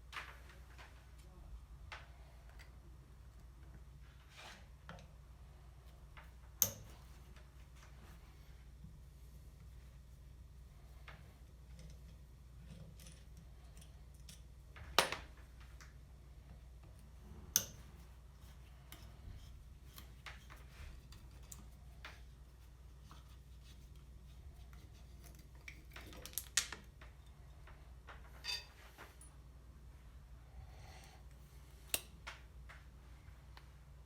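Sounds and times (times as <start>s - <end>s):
steady low hum: 0.0s - 26.2s, 26.8s - 34.0s.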